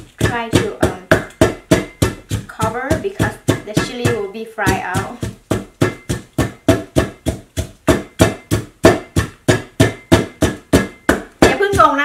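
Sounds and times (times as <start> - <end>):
pestle pounding in clay mortar: 0.0 - 12.0.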